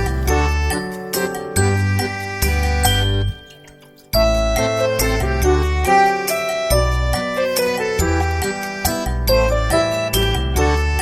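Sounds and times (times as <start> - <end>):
chiming melody over bass notes: 0.0 - 3.6, 4.2 - 11.0.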